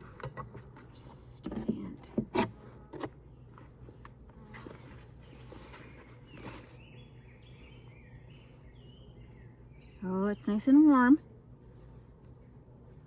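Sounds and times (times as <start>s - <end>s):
honeybees humming: 0.0s - 13.0s.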